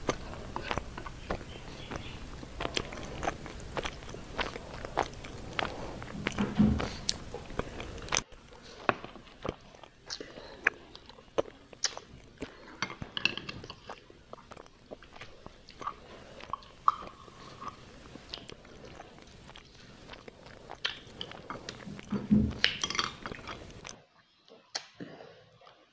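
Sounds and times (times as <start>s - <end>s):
chewing and biting: 0.0s - 24.0s.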